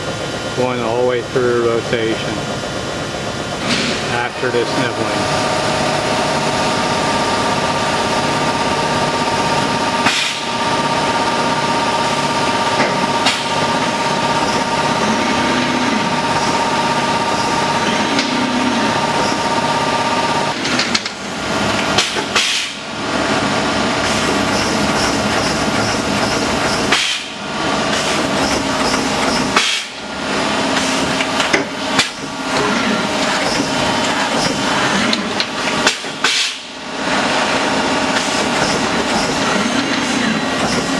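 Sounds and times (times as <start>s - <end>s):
high machine whine: 0.0s - 40.9s
turret press punching steadily: 5.1s - 40.9s.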